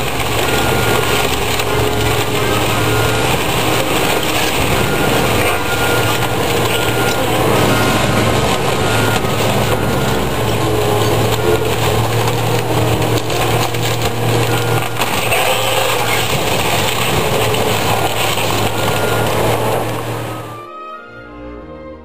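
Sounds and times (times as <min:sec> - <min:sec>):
wood cracking and splintering: 0:00.0 - 0:20.6
heavy machine engine running: 0:00.0 - 0:20.7.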